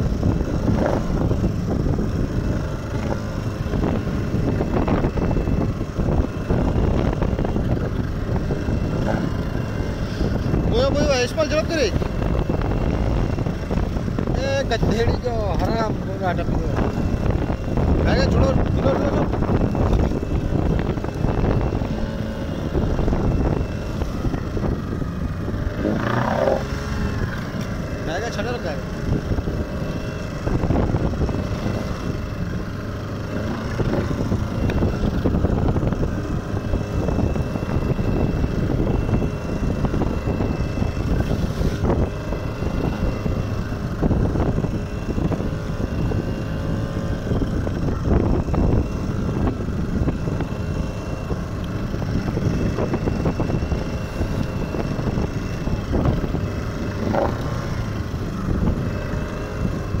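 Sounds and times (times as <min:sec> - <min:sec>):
boat motor running: 0:00.0 - 1:00.0
wind buffeting microphone: 0:00.0 - 1:00.0.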